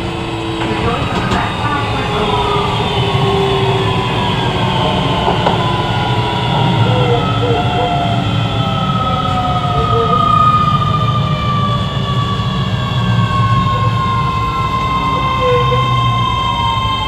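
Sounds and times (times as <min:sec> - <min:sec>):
electric train motors whining: 0:00.0 - 0:17.0
wheels rumbling on rail: 0:00.0 - 0:17.0.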